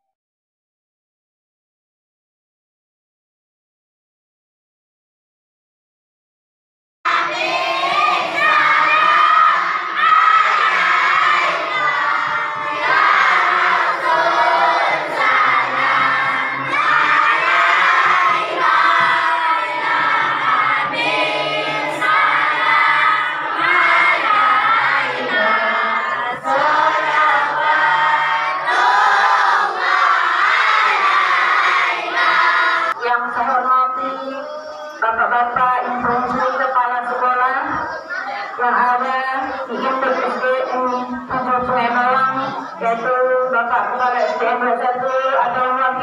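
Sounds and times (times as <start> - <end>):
crowd singing devotional song: 7.1 - 46.0.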